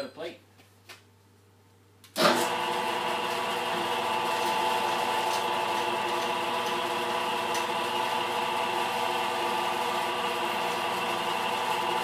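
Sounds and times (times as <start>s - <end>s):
mill spindle motor humming: 2.2s - 12.0s.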